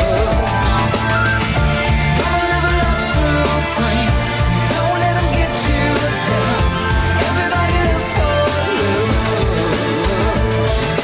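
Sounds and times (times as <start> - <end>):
pop-rock music: 0.0 - 11.0.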